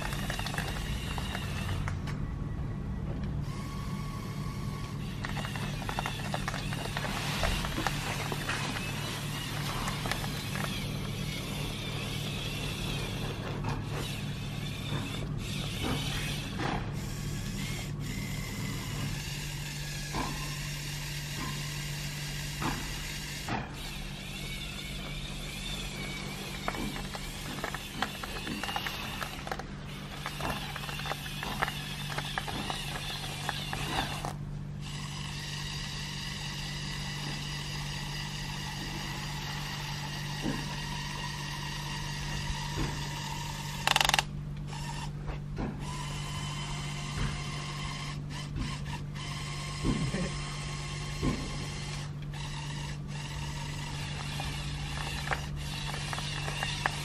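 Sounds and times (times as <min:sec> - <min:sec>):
toy motors and gears whirring: 0:00.0 - 0:02.3, 0:03.3 - 0:57.0.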